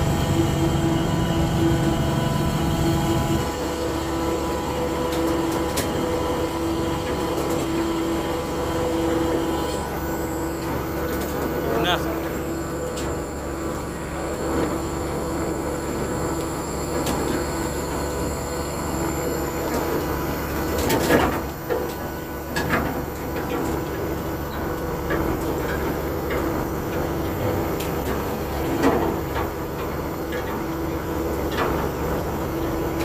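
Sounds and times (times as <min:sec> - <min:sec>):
ship engine droning: 0:00.0 - 0:33.0.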